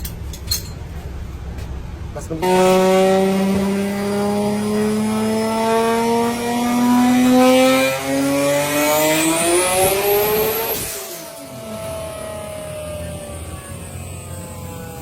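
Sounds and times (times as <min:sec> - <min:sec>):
car engine accelerating hard: 0:02.3 - 0:15.0.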